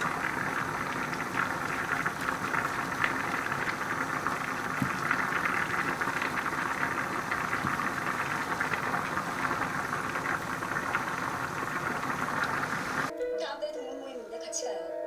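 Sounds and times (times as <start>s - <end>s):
crackling sizzle: 0.0s - 13.1s.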